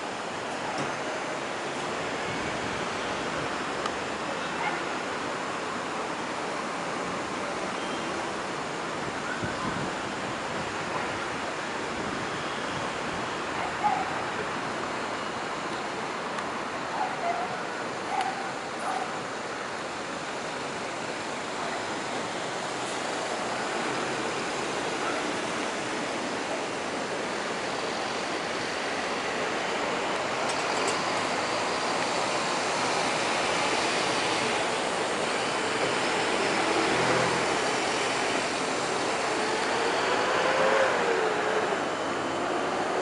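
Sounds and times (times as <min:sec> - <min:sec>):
distant city traffic rushing: 0:00.0 - 0:43.0.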